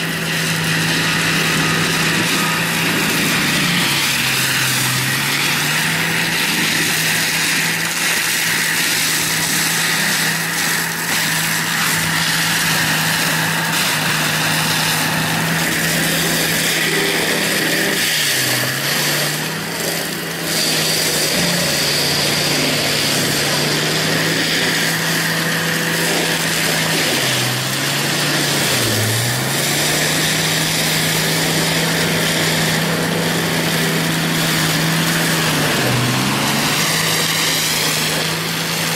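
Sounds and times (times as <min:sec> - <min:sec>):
cutter grinding through brush: 0:00.0 - 0:38.9
diesel engine running hard: 0:00.0 - 0:38.9.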